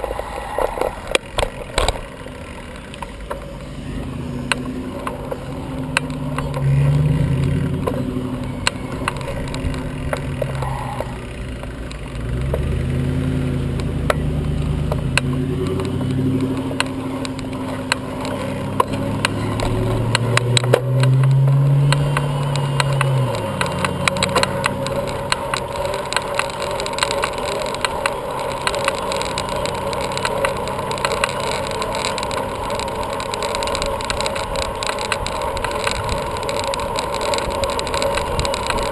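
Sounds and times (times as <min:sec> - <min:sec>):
vehicles passing: 0:00.0 - 0:38.9
small clicks: 0:04.4 - 0:38.9.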